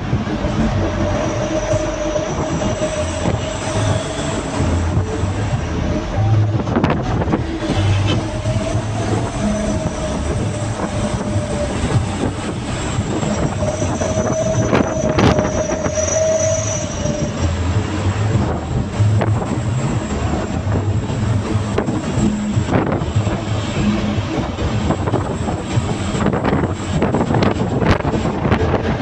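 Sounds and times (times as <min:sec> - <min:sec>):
vehicle engine and road drone: 0:00.0 - 0:29.0.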